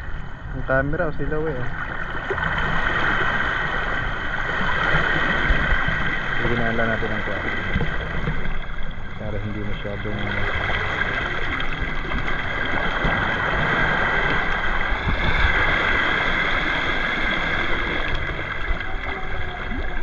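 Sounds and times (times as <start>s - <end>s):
seawater sloshing over rocks: 1.2s - 20.0s.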